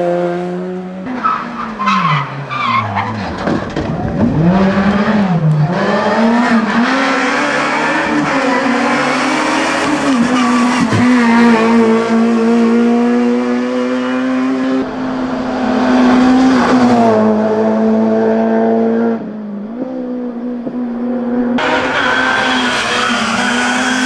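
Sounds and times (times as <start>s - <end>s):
racing car engine at high revs: 4.0s - 24.0s.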